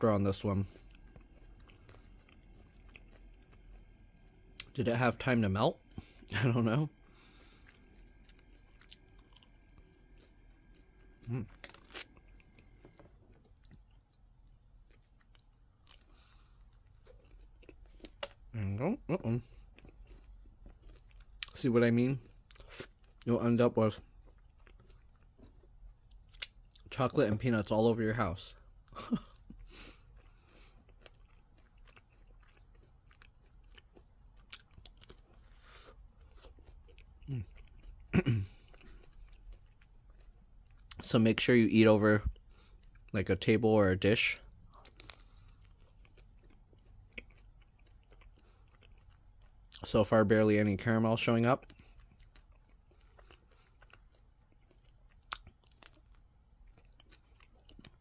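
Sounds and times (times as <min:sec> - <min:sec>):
faint chewing with soft crunches: 0:00.0 - 0:58.0.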